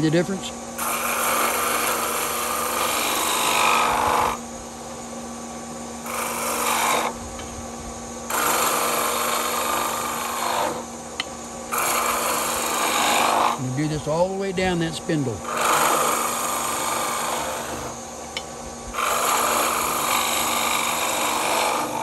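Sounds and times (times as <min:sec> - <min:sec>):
chisel shearing spinning wood: 0:00.0 - 0:22.0
lathe motor hum: 0:00.0 - 0:22.0.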